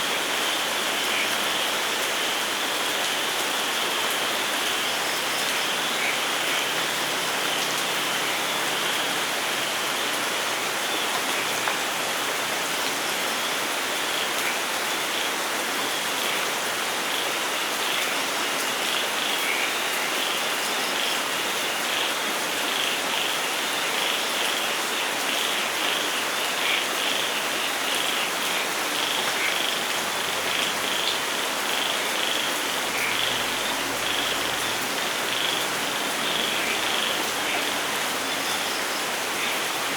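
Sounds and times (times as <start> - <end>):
rain falling on forest: 0.0 - 39.9.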